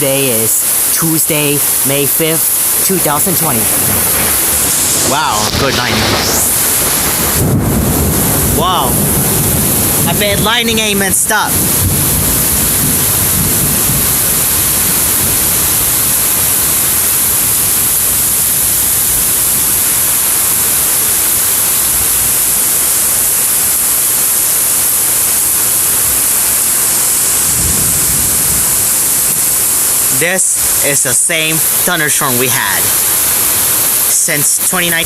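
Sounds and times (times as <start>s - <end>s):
heavy rain pouring: 0.0s - 35.0s
low thunder rumble: 1.6s - 32.0s.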